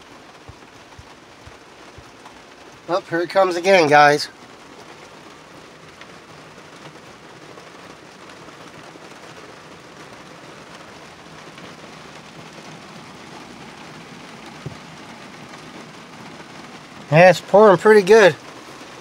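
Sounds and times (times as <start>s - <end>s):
heavy rain on a truck: 0.0s - 19.0s.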